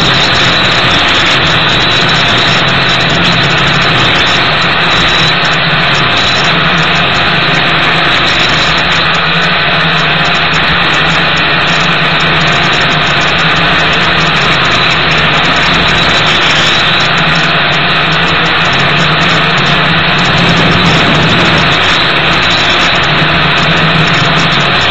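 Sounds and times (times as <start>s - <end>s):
drone motors humming and buzzing: 0.0s - 24.9s
wind noise: 0.0s - 24.9s.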